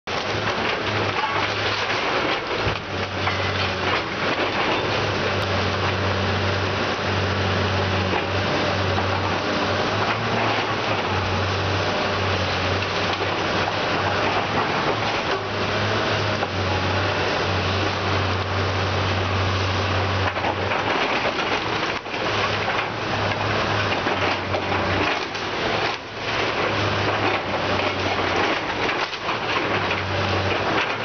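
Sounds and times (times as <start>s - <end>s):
excavator diesel engine: 0.0s - 31.0s
timber and debris crunching: 0.1s - 31.0s.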